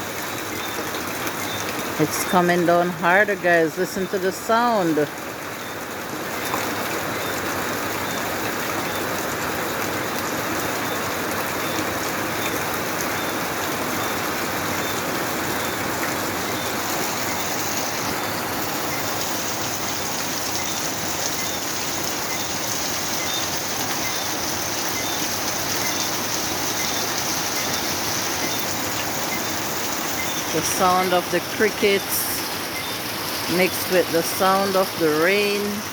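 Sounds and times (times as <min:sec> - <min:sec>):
heavy rain: 0:00.0 - 0:35.9.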